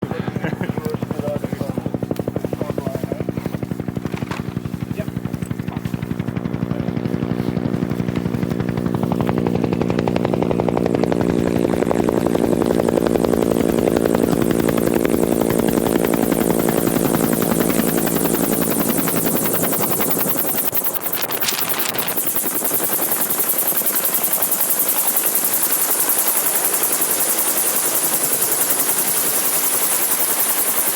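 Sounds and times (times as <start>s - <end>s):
helicopter rotor beat: 0.0s - 30.9s
high turbine whine: 0.0s - 30.9s.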